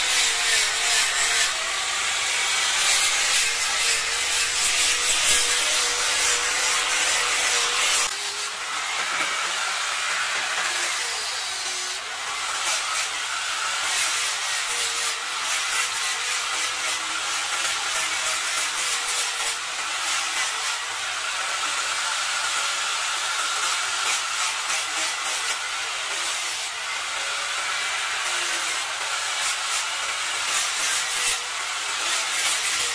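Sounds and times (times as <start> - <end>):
angle grinder motor whine: 0.0 - 32.9
sanding disc hiss on wood: 0.0 - 32.9.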